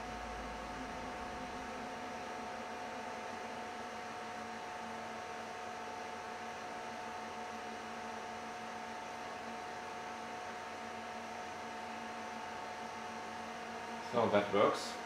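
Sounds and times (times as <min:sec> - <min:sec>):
server cooling fans whirring: 0:00.0 - 0:15.0.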